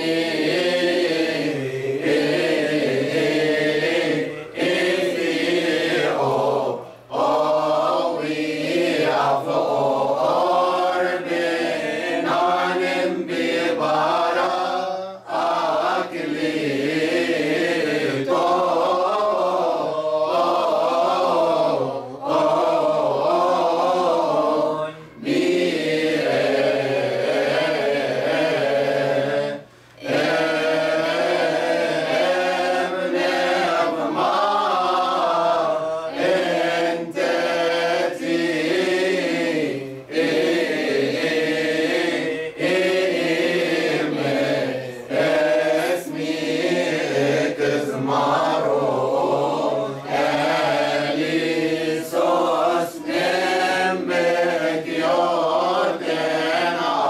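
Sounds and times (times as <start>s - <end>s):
choir chanting a hymn: 0.0s - 57.0s.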